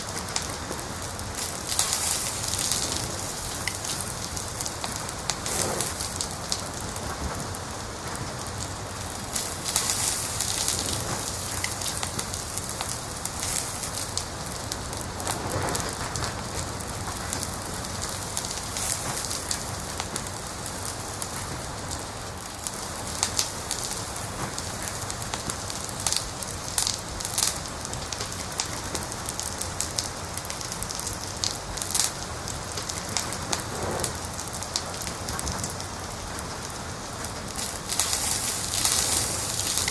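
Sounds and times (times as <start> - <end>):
fire crackling with pops: 0.0 - 39.9.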